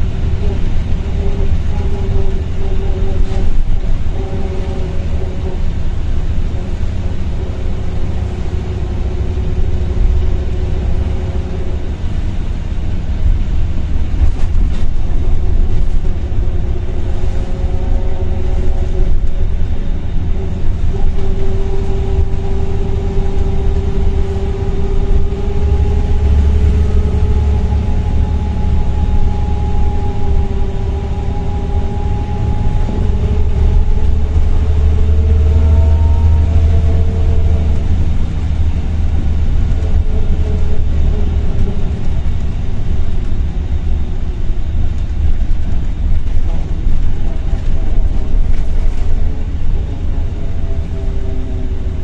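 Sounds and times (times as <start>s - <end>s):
bus diesel engine rumble: 0.0s - 52.0s
gearbox whine: 0.0s - 52.0s.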